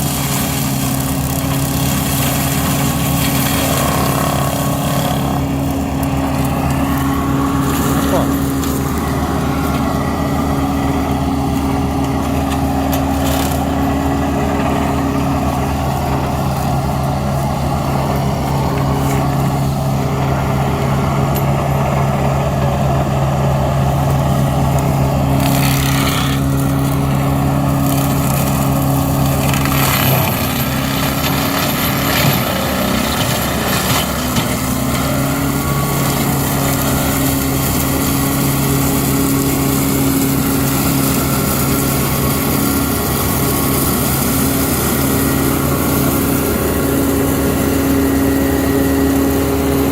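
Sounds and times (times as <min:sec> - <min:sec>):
flail mulcher: 0:00.0 - 0:49.9
tractor diesel engine running: 0:00.0 - 0:49.9.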